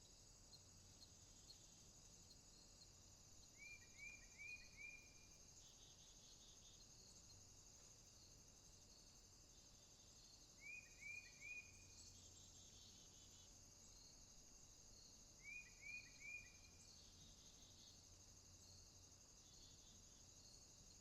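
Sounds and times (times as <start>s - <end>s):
pulsing insect chorus: 0.0s - 21.0s.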